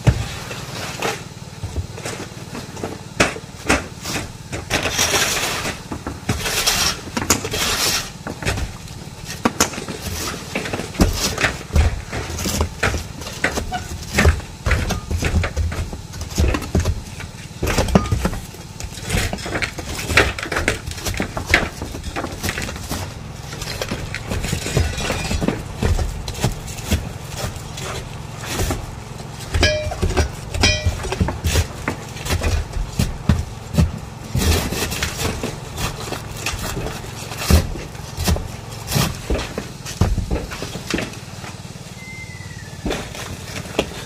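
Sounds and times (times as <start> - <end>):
low engine hum: 0.0 - 44.0
scraping: 4.0 - 41.6.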